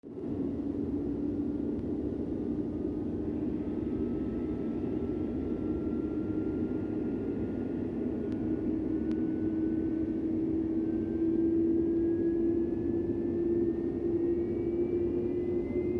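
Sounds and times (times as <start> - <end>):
engine whine rising in pitch: 0.0 - 15.9
jet engines loud drone: 0.0 - 15.9.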